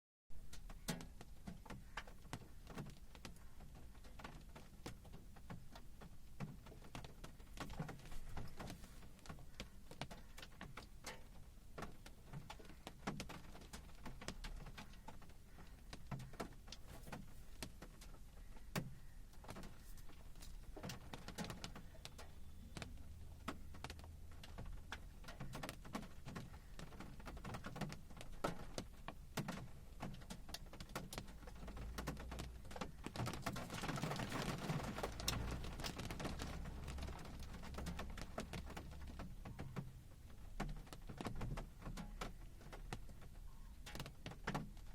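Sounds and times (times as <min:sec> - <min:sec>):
low rain rumble: 0:00.4 - 0:44.9
raindrops tapping on hard surfaces: 0:00.4 - 0:44.9.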